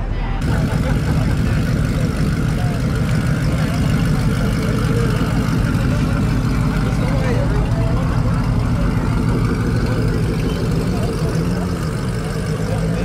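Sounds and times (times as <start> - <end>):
car engine idling: 0.4 - 13.0.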